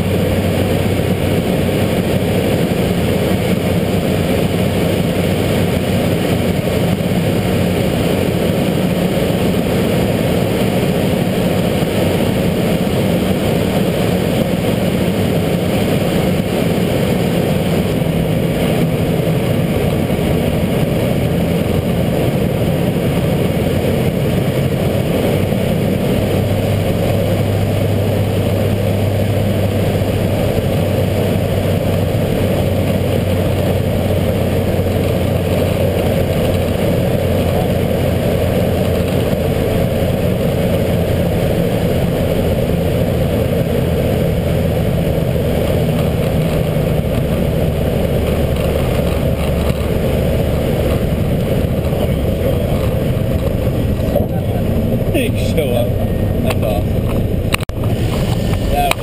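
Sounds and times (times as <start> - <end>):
propeller airplane engine drone: 0.0 - 59.0.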